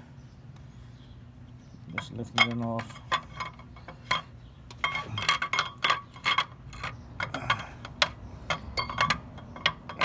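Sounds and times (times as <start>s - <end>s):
metal parts clinking and knocking: 1.9s - 10.0s.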